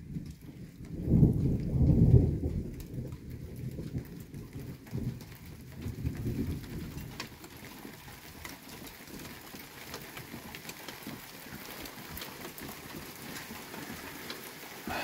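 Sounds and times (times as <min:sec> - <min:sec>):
drops ticking on surfaces: 0:00.0 - 0:15.0
steady rain: 0:00.0 - 0:15.0.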